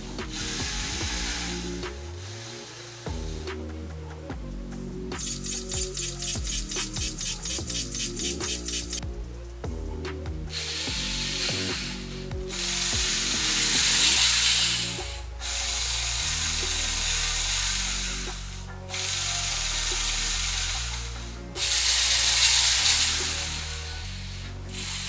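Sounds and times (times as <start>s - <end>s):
quiet background music: 0.0s - 25.0s
servo motors whirring: 0.3s - 3.2s, 5.2s - 9.0s, 10.5s - 25.0s.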